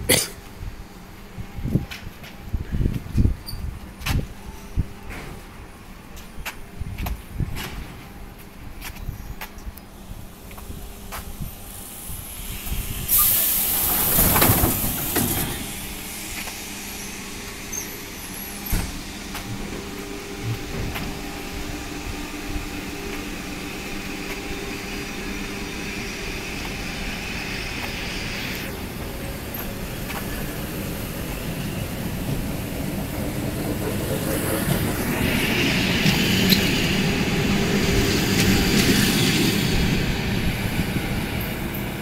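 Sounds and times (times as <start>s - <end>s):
train traction hum: 0.0s - 42.0s
wheel and rail noise: 0.4s - 42.0s.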